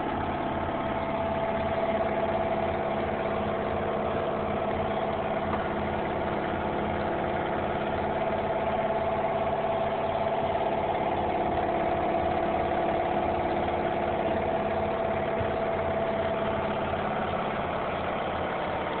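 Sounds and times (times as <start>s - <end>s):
motor droning: 0.0s - 19.0s.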